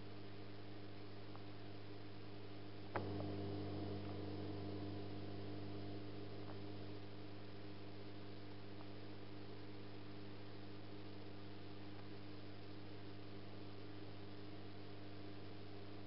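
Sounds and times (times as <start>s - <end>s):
faint hiss: 0.0s - 16.0s
low electrical hum: 0.0s - 16.0s.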